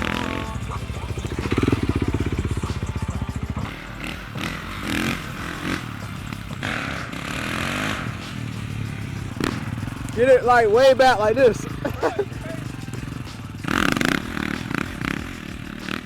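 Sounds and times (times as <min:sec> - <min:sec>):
off-road bike engine revving: 0:00.0 - 0:16.0.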